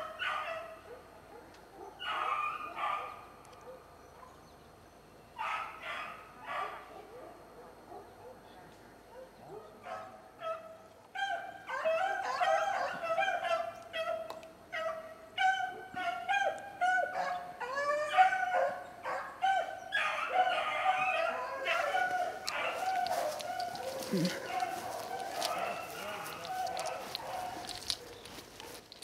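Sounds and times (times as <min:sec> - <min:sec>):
dogs baying and yelping: 0:00.0 - 0:03.8, 0:09.1 - 0:29.0.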